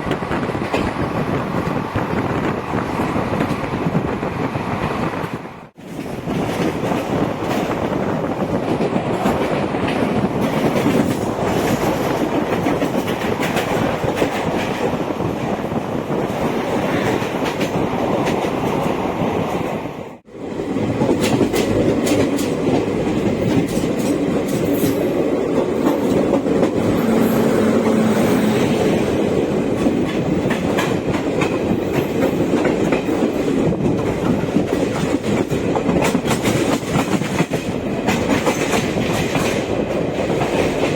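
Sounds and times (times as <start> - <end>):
train wheels clattering on rails: 0.0 - 40.9.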